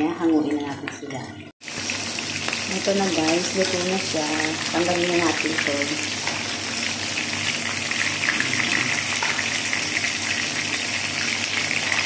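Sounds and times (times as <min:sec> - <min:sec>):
chicken frying in hot oil: 0:01.6 - 0:12.0.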